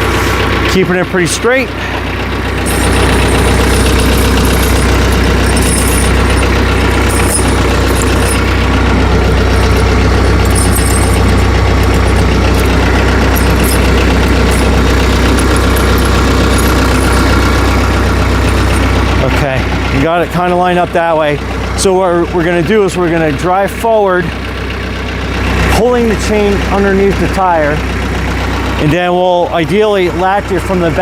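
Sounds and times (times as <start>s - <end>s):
tractor engine idling: 0.0s - 31.0s.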